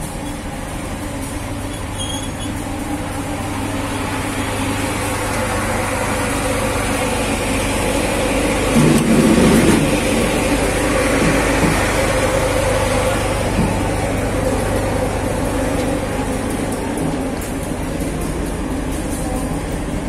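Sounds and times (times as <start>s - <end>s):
diesel train engine hum: 0.0s - 20.0s
train rumble: 0.0s - 20.0s.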